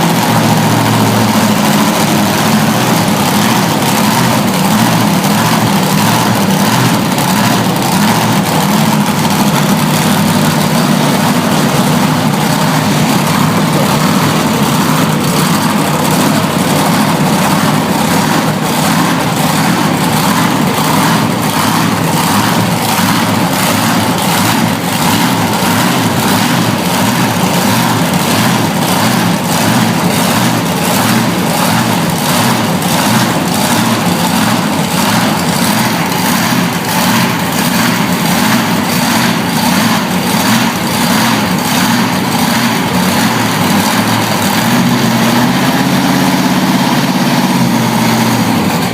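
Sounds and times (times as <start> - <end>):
heavy vehicle engine idling: 0.0 - 48.9.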